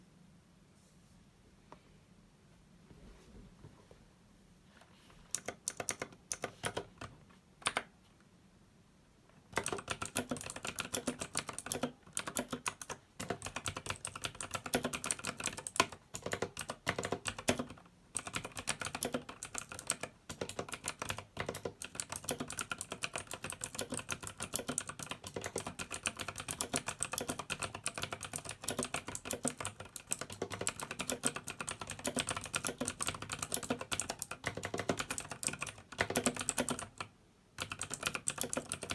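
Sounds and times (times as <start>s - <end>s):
typing on clicky mechanical keyboard: 5.3s - 7.9s, 9.5s - 38.9s.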